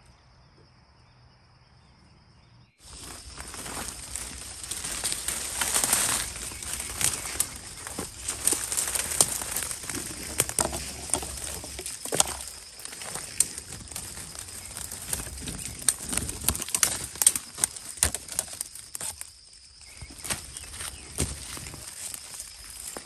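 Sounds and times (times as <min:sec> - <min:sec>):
leaves and brush rustling: 0:02.8 - 0:23.0
twigs snapping: 0:02.8 - 0:23.0.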